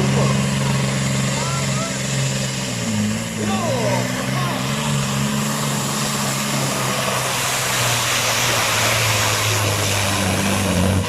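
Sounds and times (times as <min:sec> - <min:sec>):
diesel engine at full power: 0:00.0 - 0:11.0
exhaust and turbo hiss: 0:00.0 - 0:11.0.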